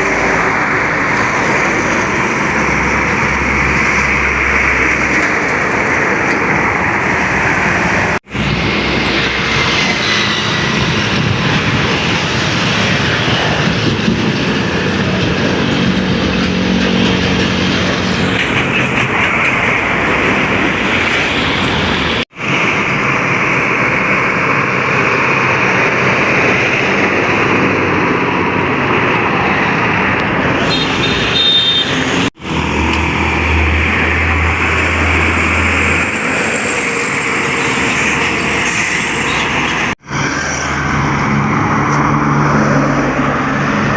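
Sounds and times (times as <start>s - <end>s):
heavy trucks passing on highway: 0.0s - 43.9s
low engine drone: 0.0s - 43.9s.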